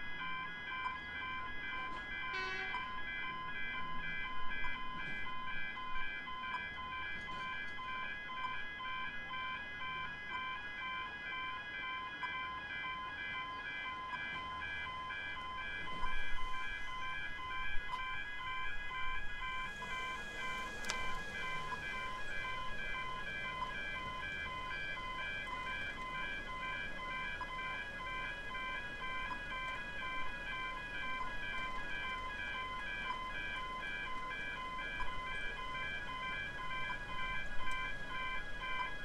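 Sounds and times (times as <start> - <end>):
level-crossing alarm ringing: 0.0 - 39.0.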